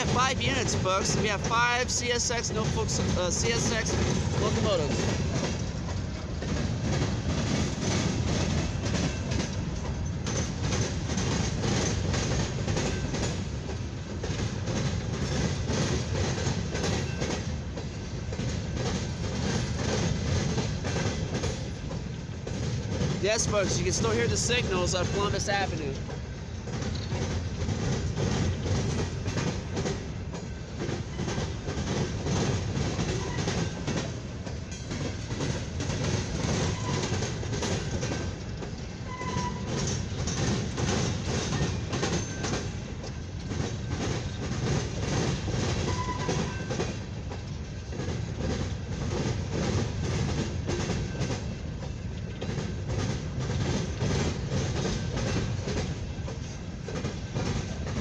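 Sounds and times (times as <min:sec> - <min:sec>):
freight train rumble: 0:00.0 - 0:58.0
wheels clickety-clack: 0:00.0 - 0:58.0.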